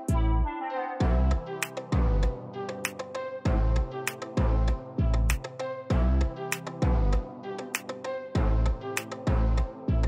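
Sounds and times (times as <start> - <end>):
instrumental beat with held chords: 0.0 - 10.0.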